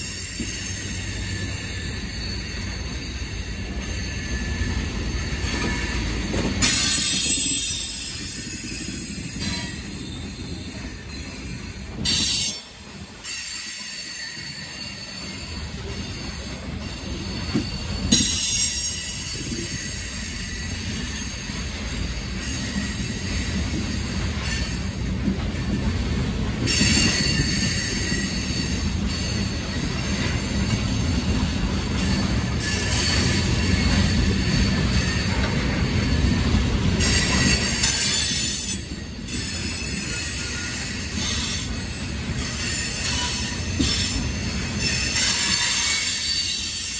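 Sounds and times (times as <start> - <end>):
high wheel squeal: 0.0 - 12.6, 13.2 - 25.2, 26.6 - 46.9
train wheels rumbling on rail: 0.0 - 46.9.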